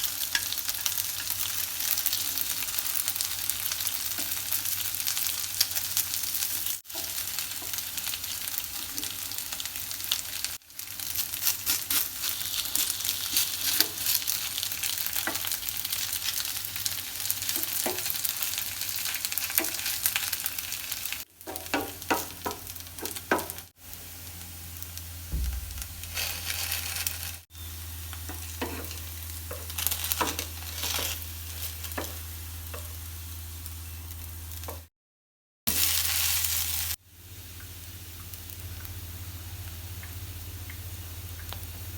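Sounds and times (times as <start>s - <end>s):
potato pancake sizzling in oil: 0.0s - 34.8s, 35.7s - 41.9s.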